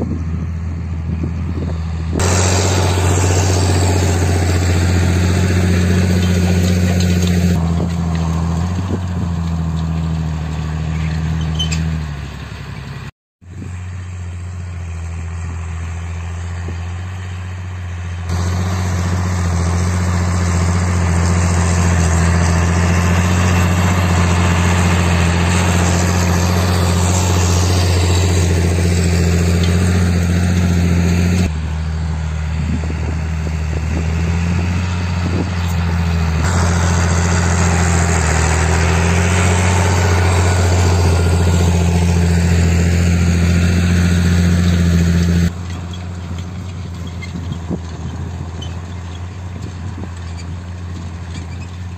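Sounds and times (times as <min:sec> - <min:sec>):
tractor diesel engine under load: 0:00.0 - 0:51.9
discs rushing through soil: 0:02.1 - 0:13.0, 0:18.3 - 0:51.9.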